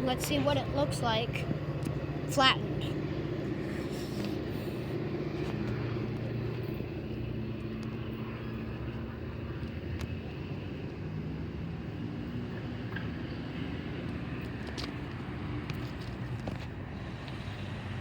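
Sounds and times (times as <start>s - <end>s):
large engine droning: 0.0s - 18.0s.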